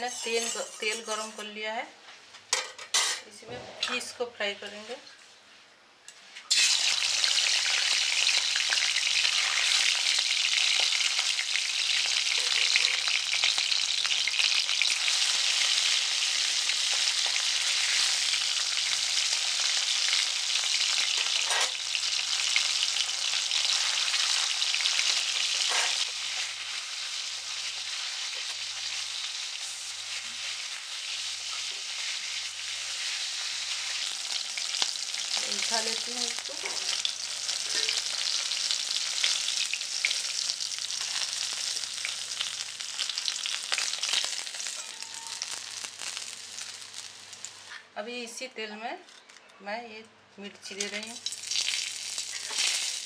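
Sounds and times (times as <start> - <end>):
fish sizzling in hot oil: 6.5 - 47.7, 50.8 - 53.0.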